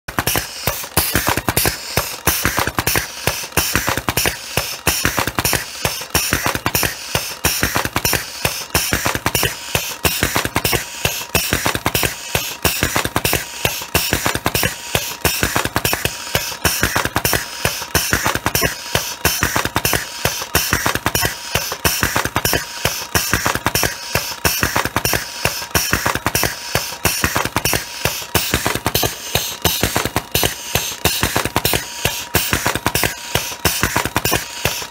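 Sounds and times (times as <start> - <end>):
machine pushers clacking: 0.1 - 34.9.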